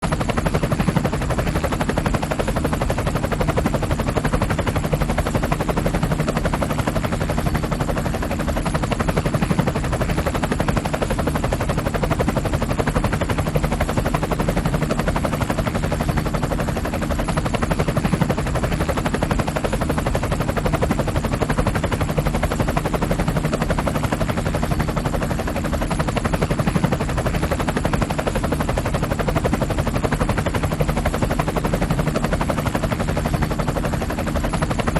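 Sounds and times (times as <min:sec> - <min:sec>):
helicopter rotor chopping: 0:00.0 - 0:34.9.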